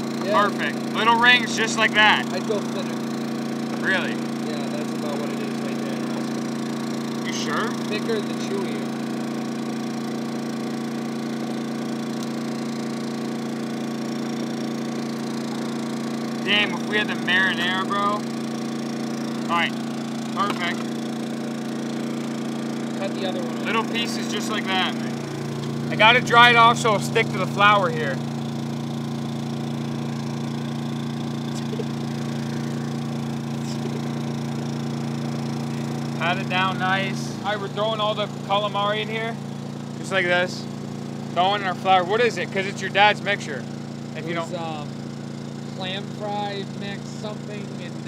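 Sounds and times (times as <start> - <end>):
generator engine humming: 0.0 - 48.0.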